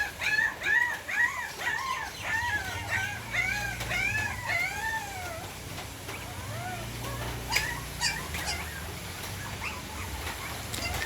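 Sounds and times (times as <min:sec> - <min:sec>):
puppies whining: 0:00.0 - 0:11.0.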